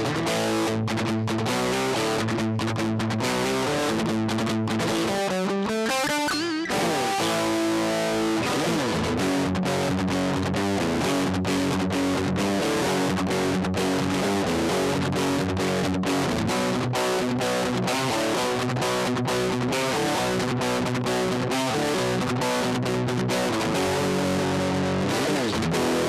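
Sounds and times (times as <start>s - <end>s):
electric guitar picked notes: 0.0s - 26.0s.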